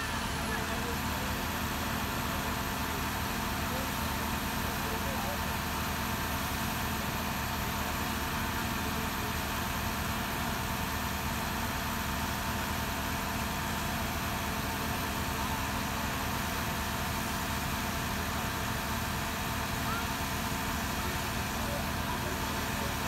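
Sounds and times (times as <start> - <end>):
heavy vehicle engine idling: 0.0 - 23.0.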